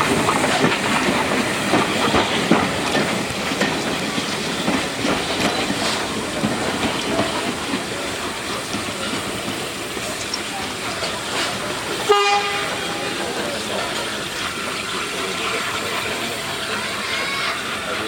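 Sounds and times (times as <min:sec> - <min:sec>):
hiss of steam: 0:00.0 - 0:18.0
train wheels clicking over rail joints: 0:00.0 - 0:18.0.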